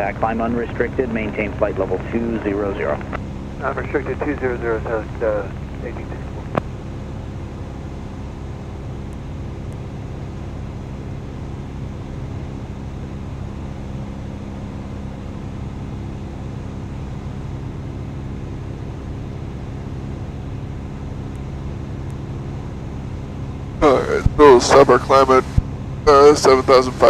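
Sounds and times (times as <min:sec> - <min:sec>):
airplane engine and propeller droning: 0:00.0 - 0:27.0.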